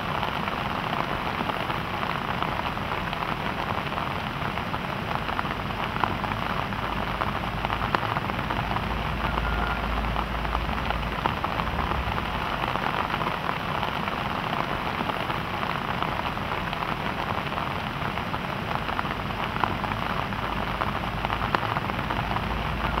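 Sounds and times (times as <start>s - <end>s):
rain falling on leaves: 0.0s - 23.0s.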